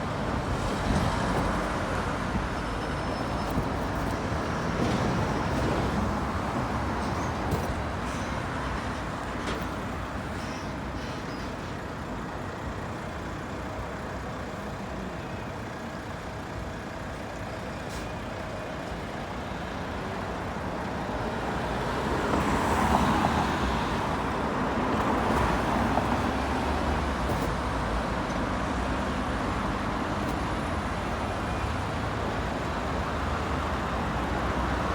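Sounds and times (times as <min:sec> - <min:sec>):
buses and cars passing: 0:00.0 - 0:34.9.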